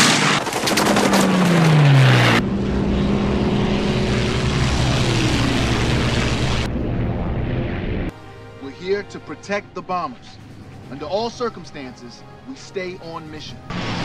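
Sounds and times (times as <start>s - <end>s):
propeller engine drone: 0.0s - 14.0s
propeller plane engine passing: 1.3s - 14.0s.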